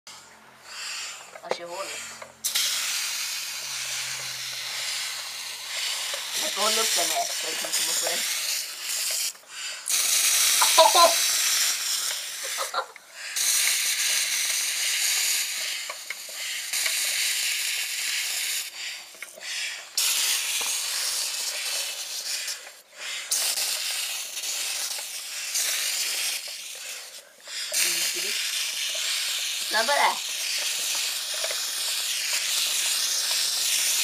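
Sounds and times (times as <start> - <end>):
air hissing from inner tube: 0.1 - 34.0.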